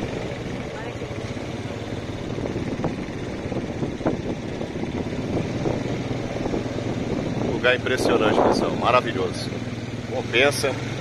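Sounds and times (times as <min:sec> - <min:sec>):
buggy engine running: 0:00.0 - 0:11.0.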